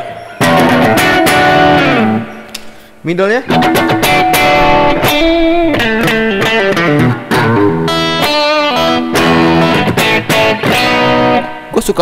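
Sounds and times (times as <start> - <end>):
overdriven electric guitar lick: 0.0 - 11.8.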